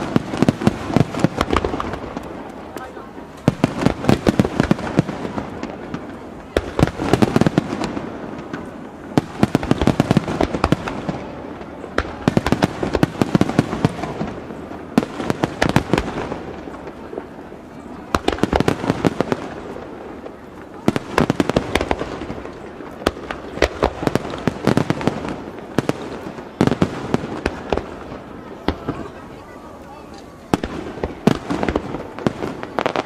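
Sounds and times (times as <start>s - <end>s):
fireworks crackling bangs: 0.0s - 33.0s.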